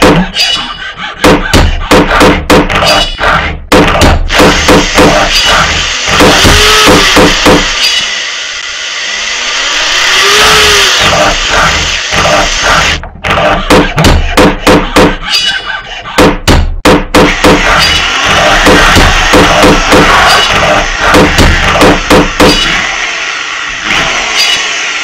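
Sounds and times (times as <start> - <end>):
electronic music with knocking hits: 0.0 - 8.1, 10.9 - 22.9.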